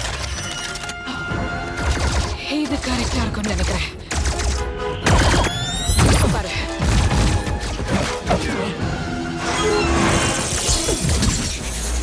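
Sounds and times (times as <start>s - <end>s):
film score music: 0.0s - 12.0s.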